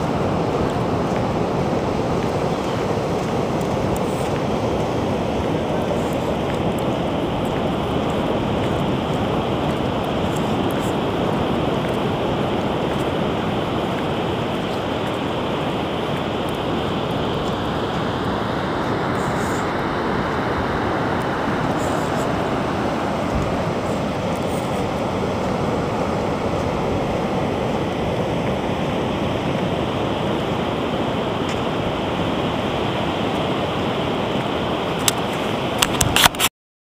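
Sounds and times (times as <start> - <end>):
ocean surf: 0.0 - 36.5
wind: 0.0 - 36.5.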